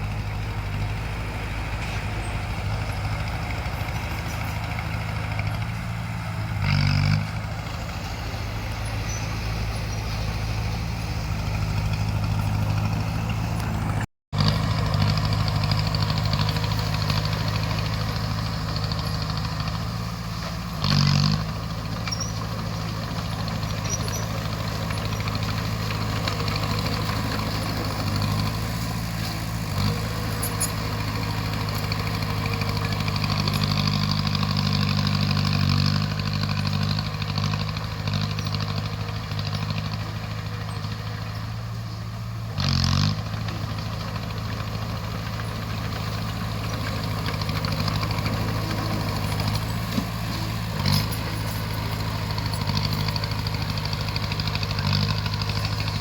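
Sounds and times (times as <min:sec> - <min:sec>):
bulldozer engine running: 0:00.0 - 0:56.0.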